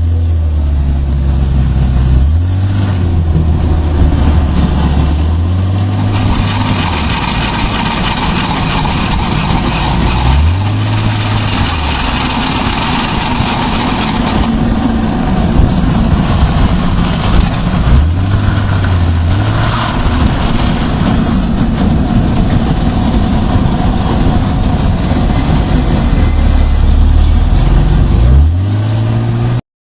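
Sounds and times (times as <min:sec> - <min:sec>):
car engine rising and falling: 0:00.0 - 0:29.6
road noise: 0:00.0 - 0:29.6
rumbling clicking from car rear: 0:00.6 - 0:29.6.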